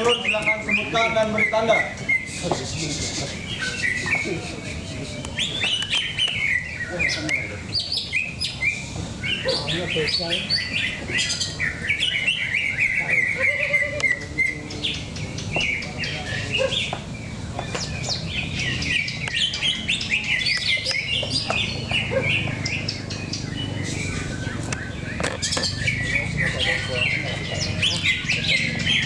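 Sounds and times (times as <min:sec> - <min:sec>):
birds singing: 0:00.0 - 0:29.0.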